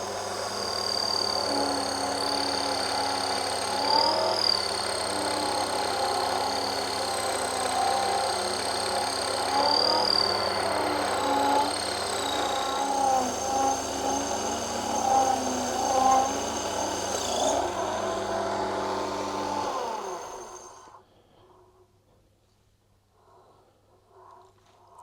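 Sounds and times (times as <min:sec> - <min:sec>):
cutting tool squealing: 0:00.0 - 0:20.9
lathe motor running: 0:00.0 - 0:21.0.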